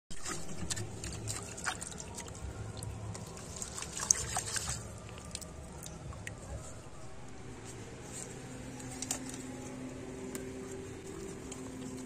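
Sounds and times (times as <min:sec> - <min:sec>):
fingers squelching in wet soil: 0:00.1 - 0:12.0
low background hum: 0:00.1 - 0:12.0.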